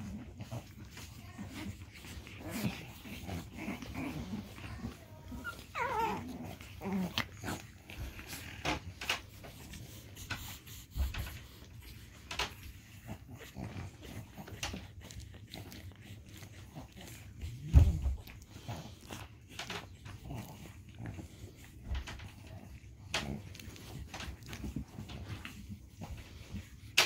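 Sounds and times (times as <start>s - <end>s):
paws scuffling on dog bed: 0.0s - 27.0s
puppies growling: 0.0s - 27.0s
puppy whining: 0.0s - 27.0s.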